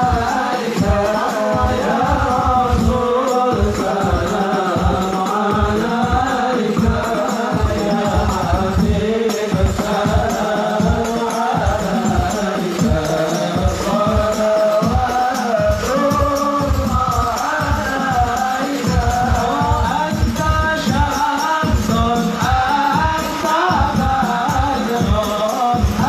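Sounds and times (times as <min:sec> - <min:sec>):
frame drums beating: 0:00.0 - 0:26.0
men singing together: 0:00.0 - 0:26.0.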